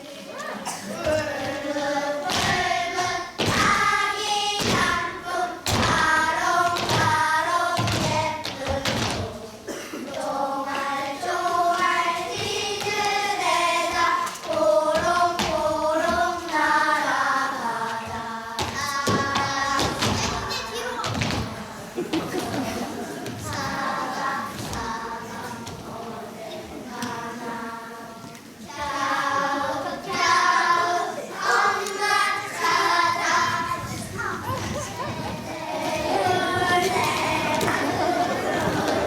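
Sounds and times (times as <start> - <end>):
children singing in unison: 0.0 - 39.0.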